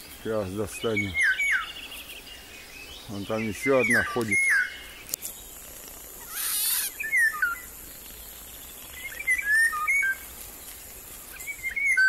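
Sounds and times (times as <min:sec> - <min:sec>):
songbirds whistling: 0:00.0 - 0:05.6, 0:06.2 - 0:12.0.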